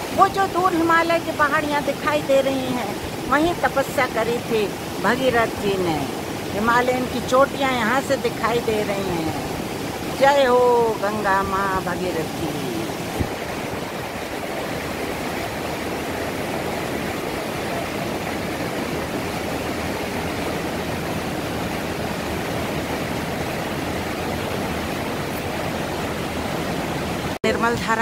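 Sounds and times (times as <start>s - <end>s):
river rushing over boulders: 0.0s - 28.0s.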